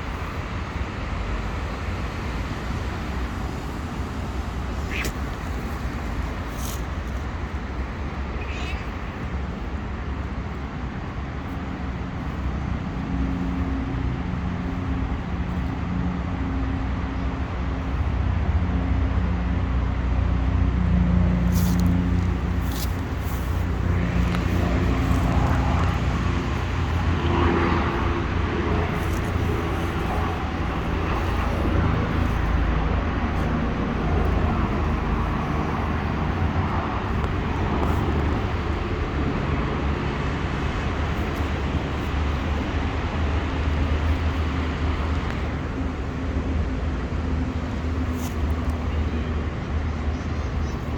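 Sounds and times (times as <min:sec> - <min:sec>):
vehicle engine rumbling: 0:00.0 - 0:50.9.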